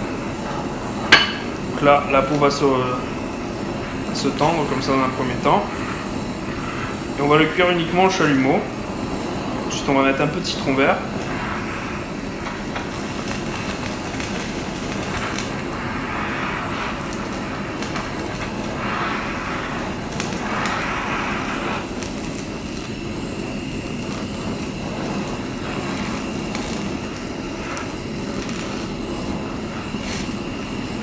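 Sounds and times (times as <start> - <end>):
blowtorch hissing: 0.0 - 31.0.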